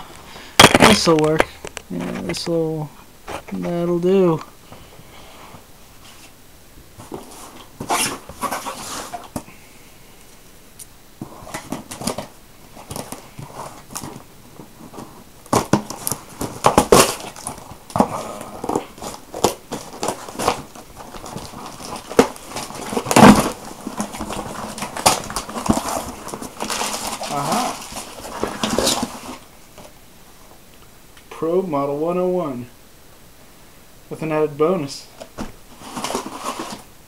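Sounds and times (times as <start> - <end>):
cardboard and packing rustling: 0.0 - 9.6, 11.2 - 30.1, 35.0 - 37.0.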